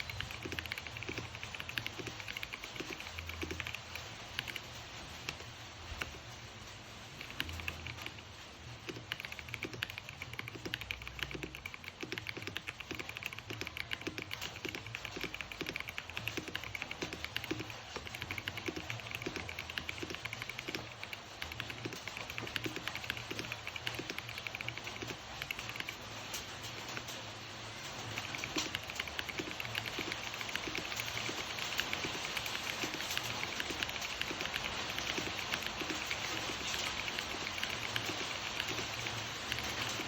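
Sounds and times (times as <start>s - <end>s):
mechanical keyboard typing: 0.0s - 40.0s.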